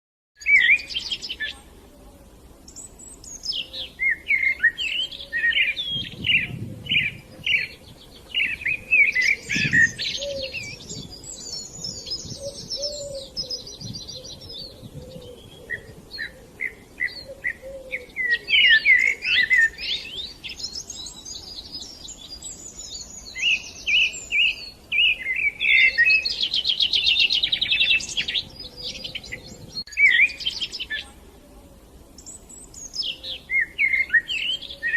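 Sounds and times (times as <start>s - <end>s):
songbirds singing and calling: 0.4s - 34.9s.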